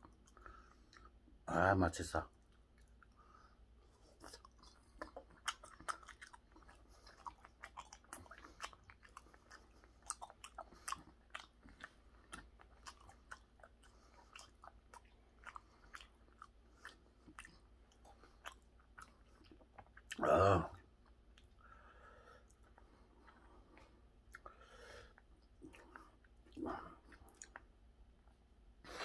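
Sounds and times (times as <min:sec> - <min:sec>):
man chewing: 0:00.0 - 0:01.4, 0:02.4 - 0:29.0.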